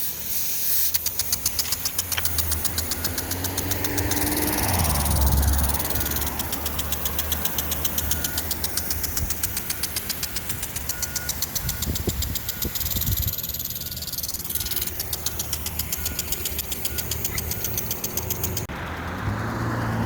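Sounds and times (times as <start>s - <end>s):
impact sprinkler ticking: 0.3s - 18.7s.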